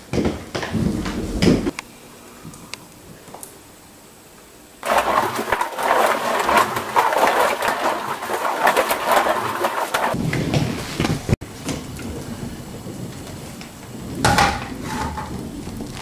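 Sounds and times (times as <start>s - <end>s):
roller skate wheels on hardwood: 0.0s - 1.8s, 4.8s - 16.0s.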